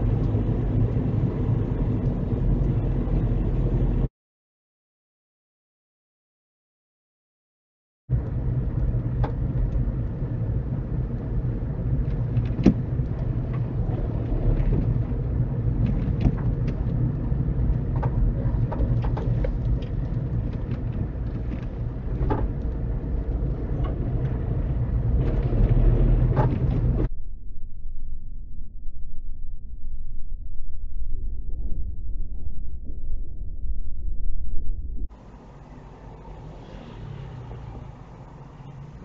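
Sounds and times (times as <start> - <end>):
car engine and road rumble: 0.0 - 4.1, 8.1 - 39.0.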